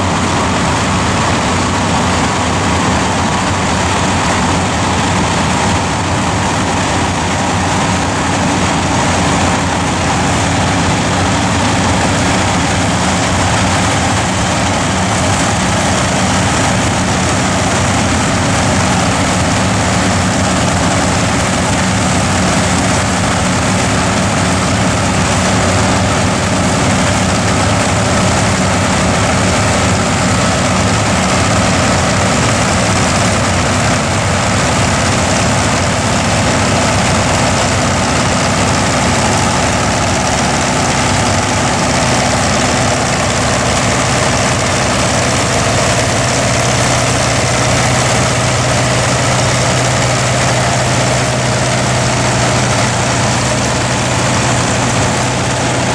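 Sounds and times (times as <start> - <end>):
forage harvester cutting: 0.0 - 55.9
tractor engine running: 0.0 - 55.9.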